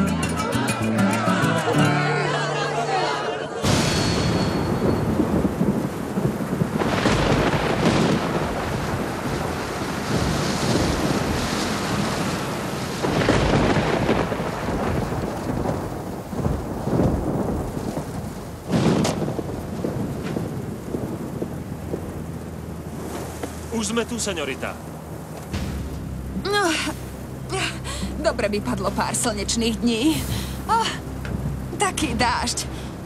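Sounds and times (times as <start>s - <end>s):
heavy rain: 1.1s - 33.0s
thunder rolling: 3.6s - 32.9s.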